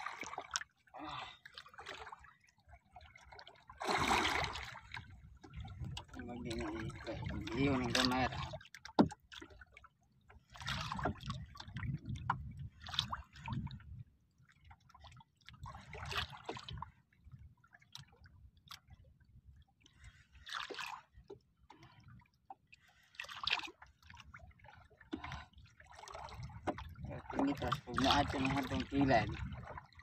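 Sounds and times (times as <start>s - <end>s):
water splashing against boat: 0.0s - 30.0s.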